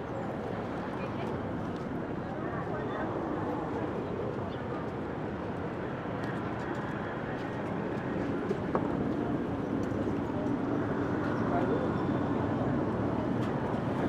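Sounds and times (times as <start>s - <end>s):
city street noise: 0.0s - 14.0s.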